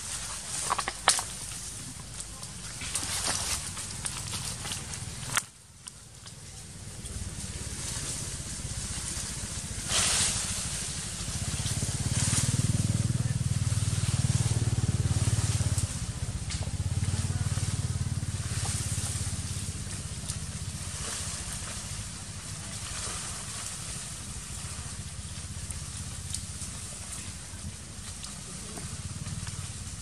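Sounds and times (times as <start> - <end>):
motorcycle engine running: 0.0 - 5.6, 6.2 - 30.0.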